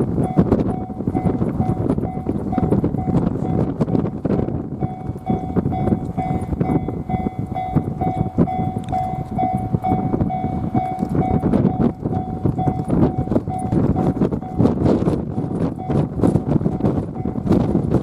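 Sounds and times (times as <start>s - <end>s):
train rumbling past: 0.0s - 18.0s
wind buffeting microphone: 0.0s - 18.0s
level crossing alarm ringing: 0.2s - 3.8s, 4.4s - 14.8s, 15.4s - 17.4s.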